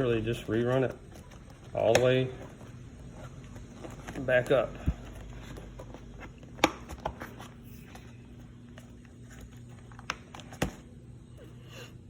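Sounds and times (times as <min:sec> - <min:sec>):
cable handling noises: 0:00.0 - 0:11.0
faint steady hum: 0:00.0 - 0:12.0.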